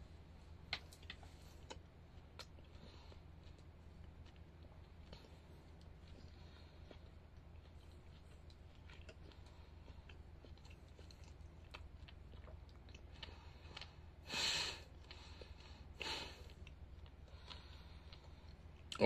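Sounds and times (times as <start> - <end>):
person chewing: 0.7 - 19.0.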